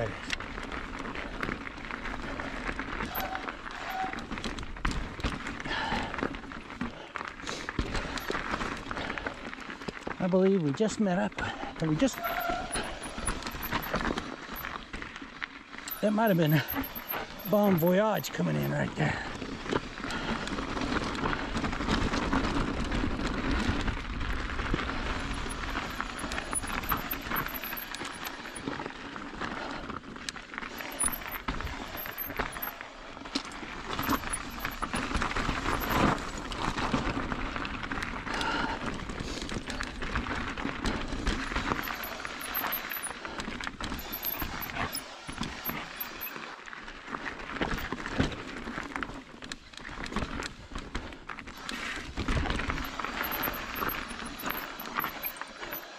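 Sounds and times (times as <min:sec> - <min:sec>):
bike rattling over bumps: 0:00.0 - 0:10.2, 0:10.8 - 0:55.9.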